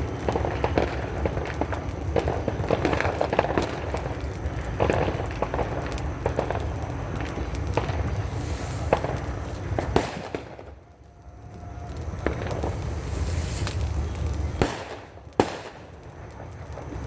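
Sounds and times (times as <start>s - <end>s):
firecrackers popping and crackling: 0.0s - 17.0s.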